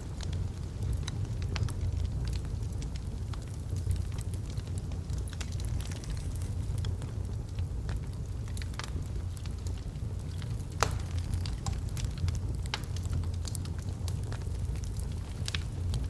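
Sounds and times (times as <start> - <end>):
burning logs crackling and popping: 0.0 - 16.0
fire low rumble: 0.0 - 16.0.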